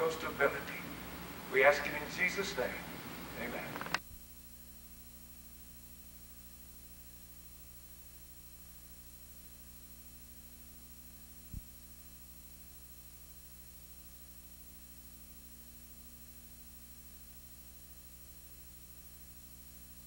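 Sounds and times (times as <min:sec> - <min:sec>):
faint electrical hum: 0:00.0 - 0:20.0
videotape hiss: 0:00.0 - 0:20.0.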